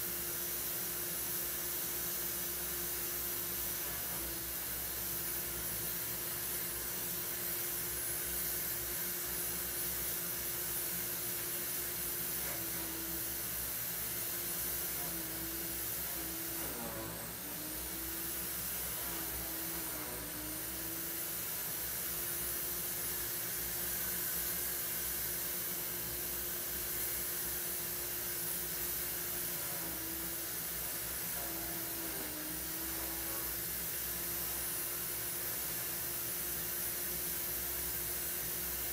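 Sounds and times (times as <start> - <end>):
appliance motor hum and hiss: 0.0 - 38.9.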